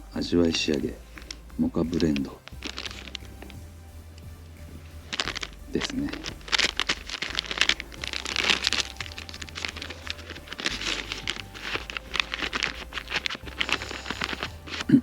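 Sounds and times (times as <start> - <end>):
coffee packet crinkling and tearing: 1.1 - 3.6, 5.0 - 15.0.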